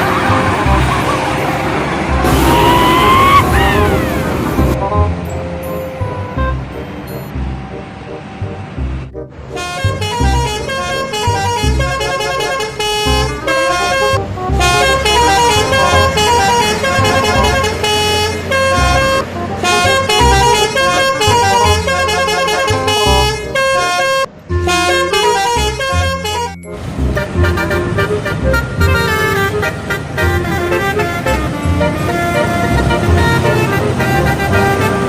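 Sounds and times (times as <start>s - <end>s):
multi-tone bus horn melody: 0.0s - 8.7s, 9.4s - 35.0s.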